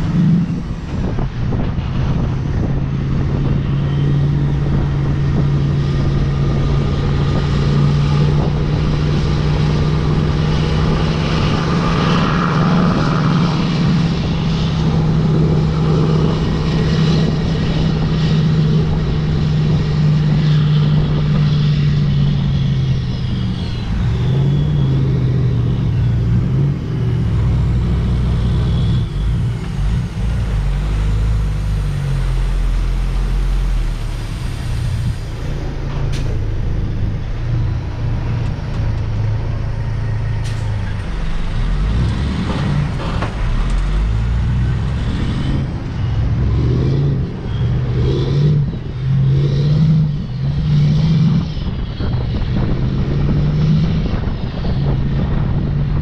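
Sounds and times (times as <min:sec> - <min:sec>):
truck diesel engine droning: 0:00.0 - 0:56.0.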